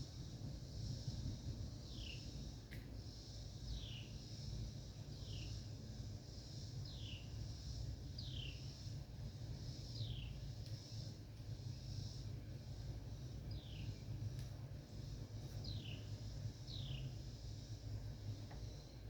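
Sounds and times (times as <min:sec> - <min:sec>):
steady high-pitched hiss: 0:00.0 - 0:19.0.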